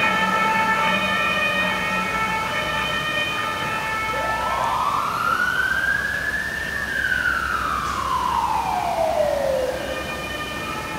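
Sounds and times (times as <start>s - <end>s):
fire engine siren wailing: 0.0s - 10.9s.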